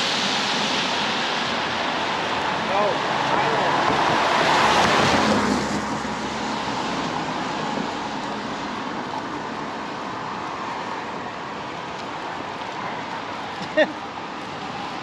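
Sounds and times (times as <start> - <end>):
car rushing noise: 0.0 - 15.0.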